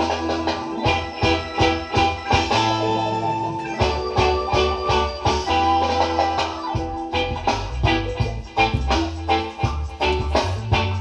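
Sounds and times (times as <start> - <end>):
instrumental reggae music: 0.0 - 11.0.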